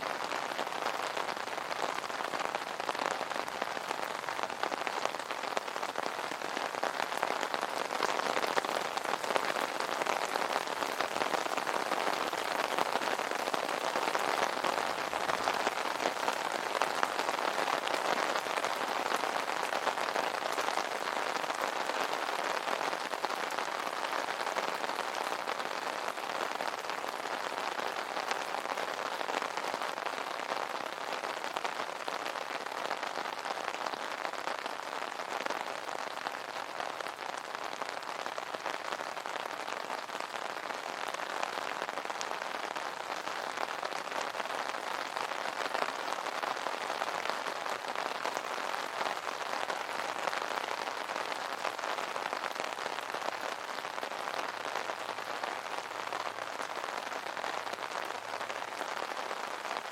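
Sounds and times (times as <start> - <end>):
rain pattering on umbrella: 0.0 - 59.9.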